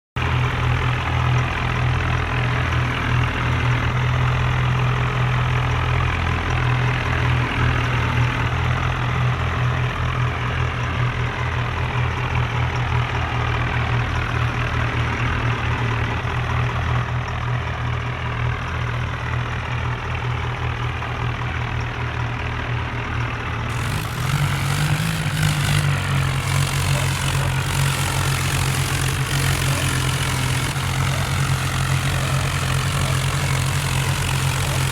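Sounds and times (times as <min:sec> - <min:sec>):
diesel tractor engines droning: 0:00.2 - 0:34.9.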